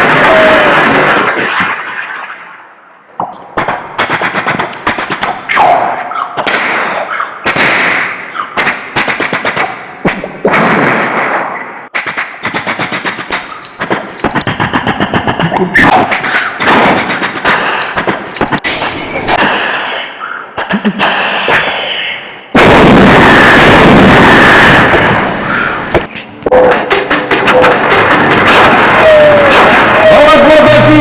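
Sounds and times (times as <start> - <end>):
mouth imitating machine-gun fire: 0.0 - 1.4, 3.6 - 18.7, 22.6 - 31.0.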